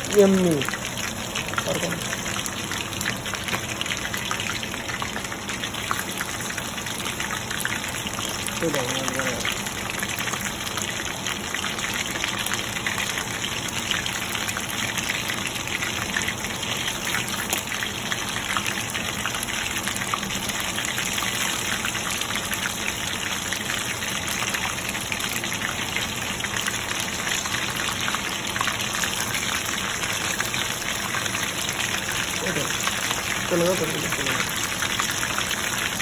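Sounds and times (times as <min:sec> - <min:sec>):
chicken frying in hot oil: 0:00.0 - 0:36.0.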